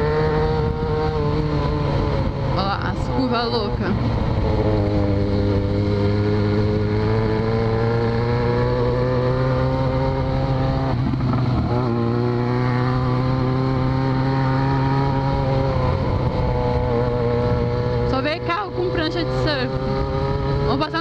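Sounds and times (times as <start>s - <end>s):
wind noise: 0.0s - 18.1s
motorcycle engine with open exhaust: 0.0s - 21.0s.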